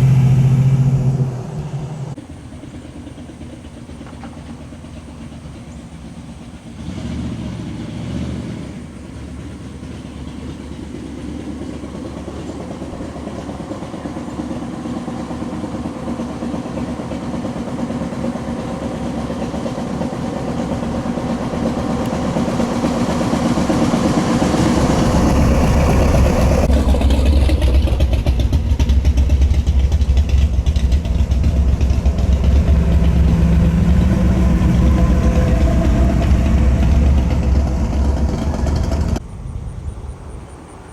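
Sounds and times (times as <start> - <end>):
car engine deep rumble: 0.0 - 40.9.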